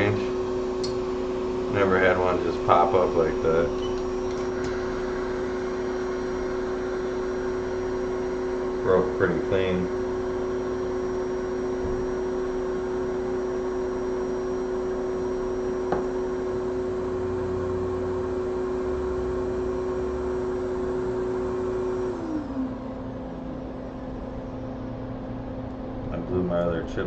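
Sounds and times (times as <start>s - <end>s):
hot air station blowing: 0.0s - 22.8s
fan winding down: 0.0s - 27.0s.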